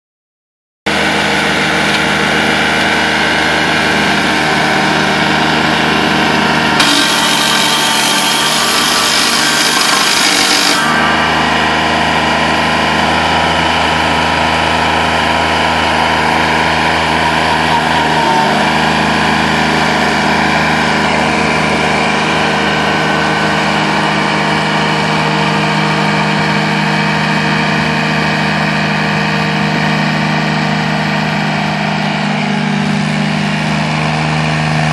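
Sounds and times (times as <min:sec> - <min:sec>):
mower engine running: 0:00.9 - 0:34.9.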